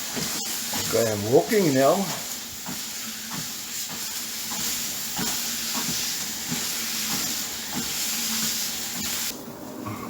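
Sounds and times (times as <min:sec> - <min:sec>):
treadmill belt hiss: 0:00.0 - 0:09.4.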